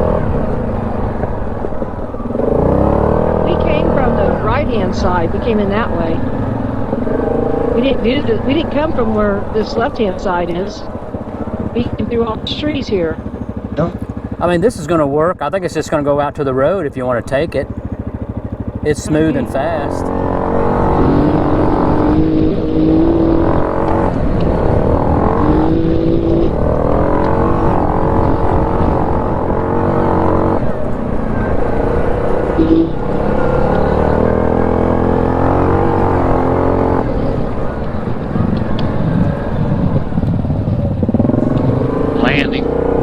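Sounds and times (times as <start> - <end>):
atv engine revving: 0.0 - 43.0.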